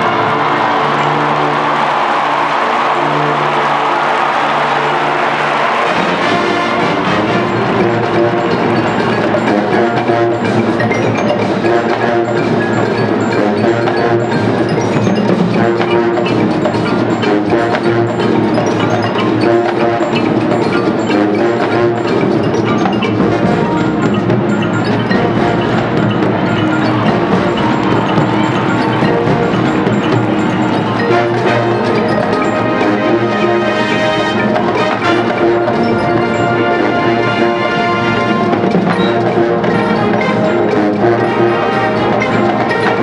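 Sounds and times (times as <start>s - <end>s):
marching band drums: 0.0s - 43.0s
ringing pitched percussion tones: 0.0s - 43.0s.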